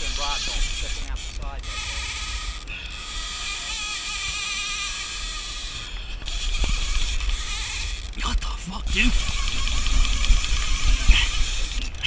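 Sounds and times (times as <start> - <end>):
fishing reel drag whining: 0.0 - 8.2, 8.9 - 12.0
low rumble of wind and boat: 0.0 - 12.0.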